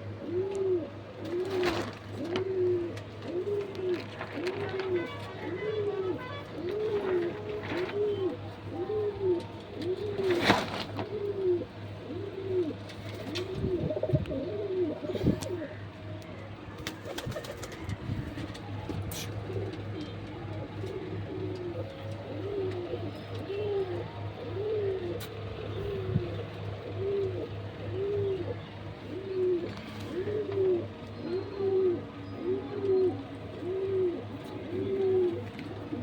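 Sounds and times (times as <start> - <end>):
pigeons cooing: 0.0 - 36.0
steady low hum: 0.0 - 36.0.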